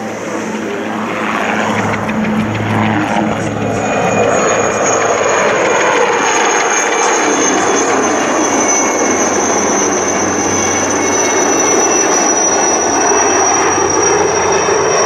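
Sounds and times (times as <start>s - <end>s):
helicopter rotors rushing: 0.0s - 15.0s
helicopter turbine whine: 0.0s - 15.0s.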